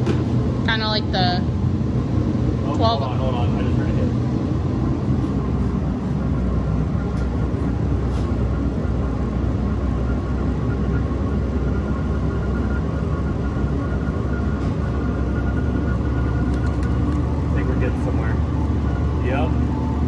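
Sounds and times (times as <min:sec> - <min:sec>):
air heater low rumble: 0:00.0 - 0:20.0
faint whine: 0:00.0 - 0:20.0.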